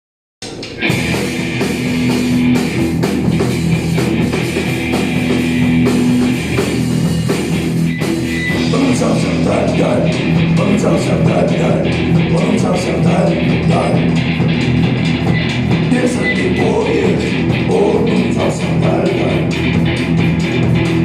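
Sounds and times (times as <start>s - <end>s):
drum kit: 0.4s - 21.0s
electric guitar: 0.4s - 21.0s.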